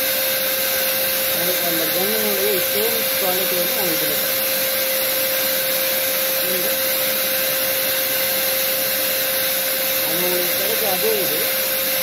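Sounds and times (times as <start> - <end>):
paint sprayer motor whining: 0.0 - 12.0.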